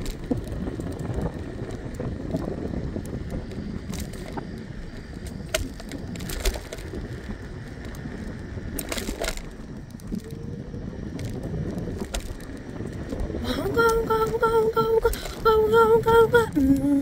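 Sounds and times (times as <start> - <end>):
wheels clacking over joints: 0.0 - 16.3
scooter wheels rumbling on concrete: 0.0 - 17.0
wind on microphone: 0.0 - 17.0.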